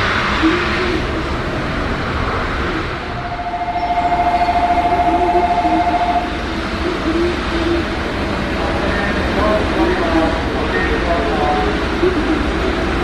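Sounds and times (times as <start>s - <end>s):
monorail train rumbling: 0.0s - 13.0s.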